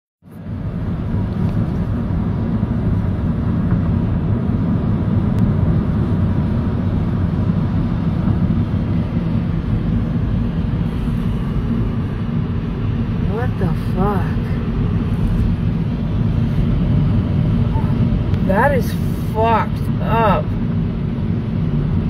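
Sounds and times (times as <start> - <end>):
car engine rumble: 0.2 - 22.0
road noise on wet road: 0.2 - 22.0.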